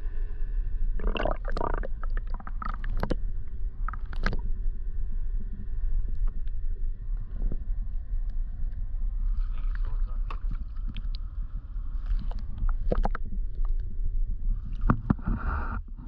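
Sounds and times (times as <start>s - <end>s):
low rumble of water and boat: 0.0s - 16.0s.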